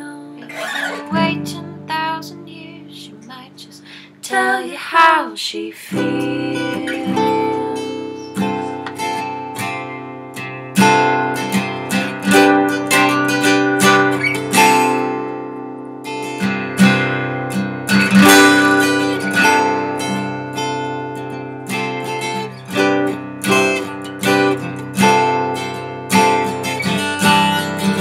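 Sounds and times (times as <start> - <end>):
acoustic guitar strumming chords: 0.2 - 28.0.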